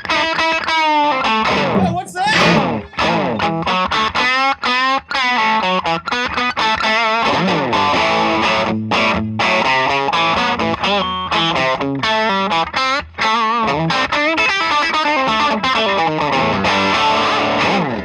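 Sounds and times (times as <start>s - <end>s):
distorted electric guitar lead: 0.0s - 18.0s.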